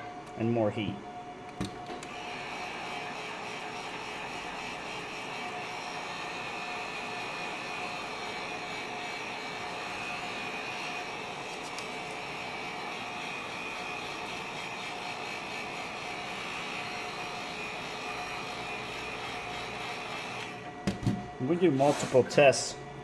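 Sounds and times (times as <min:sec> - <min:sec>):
heat gun blowing with fan whine: 0:01.3 - 0:22.8.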